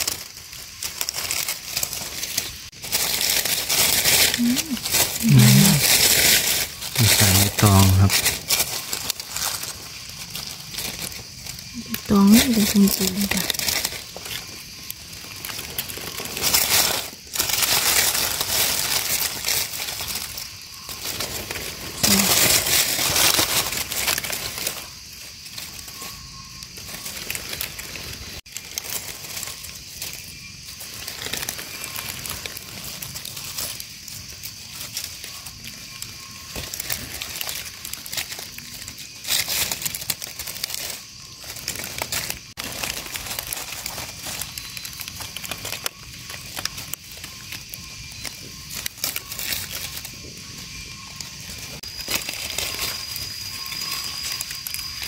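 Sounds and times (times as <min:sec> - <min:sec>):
leaf litter rustling and crackling: 0:00.0 - 0:55.0.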